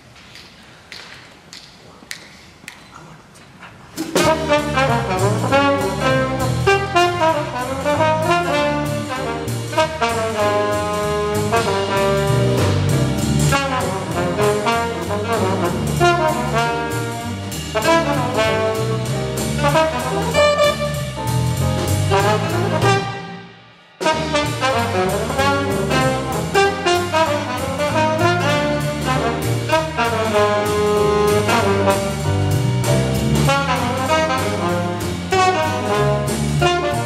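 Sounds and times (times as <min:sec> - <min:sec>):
drum kit: 0:03.9 - 0:37.0
jazz ensemble playing: 0:04.1 - 0:37.0
alto saxophone: 0:04.2 - 0:21.4, 0:22.0 - 0:32.5, 0:33.4 - 0:37.0
trombone: 0:04.2 - 0:37.0.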